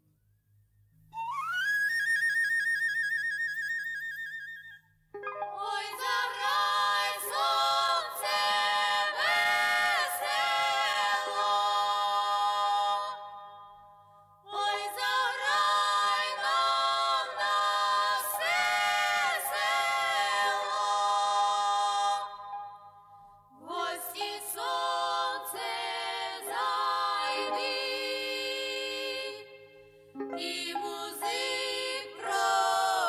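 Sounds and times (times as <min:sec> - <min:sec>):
choir of high voices singing: 0:05.3 - 0:33.0.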